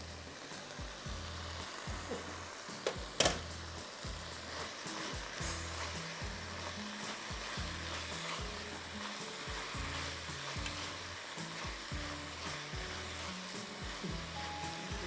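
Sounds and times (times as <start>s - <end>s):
bass line music: 0.0s - 15.0s
chicken sizzling in a pan: 0.0s - 15.0s.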